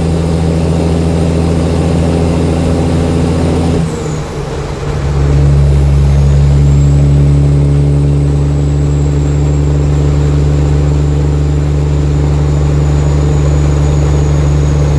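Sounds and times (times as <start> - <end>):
loud diesel engine running: 0.0 - 14.9.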